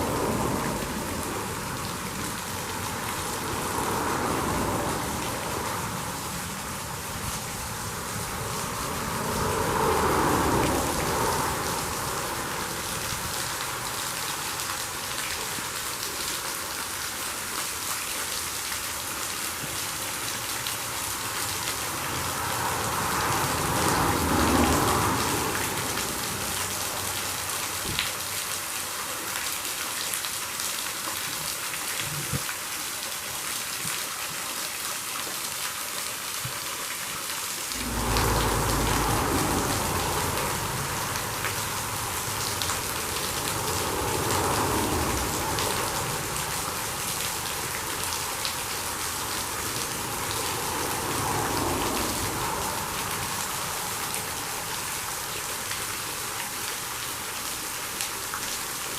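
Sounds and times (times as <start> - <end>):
highway traffic passing: 0.0 - 28.9, 37.7 - 58.9
waterfall rushing: 0.0 - 58.9.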